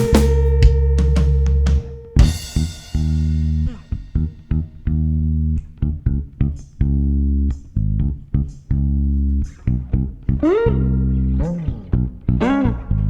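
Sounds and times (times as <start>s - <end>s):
bass guitar riff: 0.0s - 13.0s.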